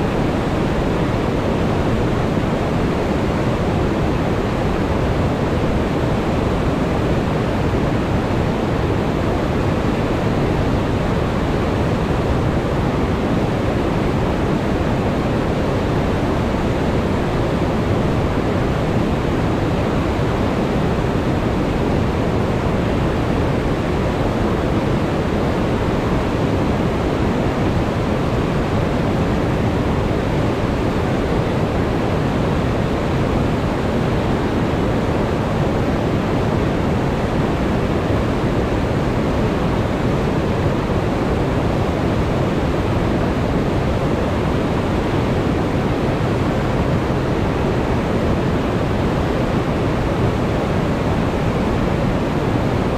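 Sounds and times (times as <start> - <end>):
whitewater rushing: 0.0 - 52.9.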